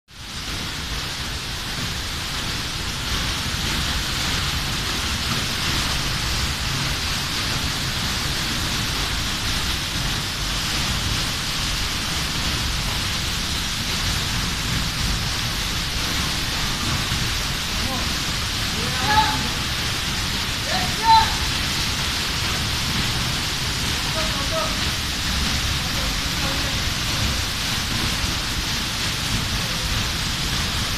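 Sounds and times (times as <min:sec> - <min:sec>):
waterfall roaring: 0:00.1 - 0:30.9.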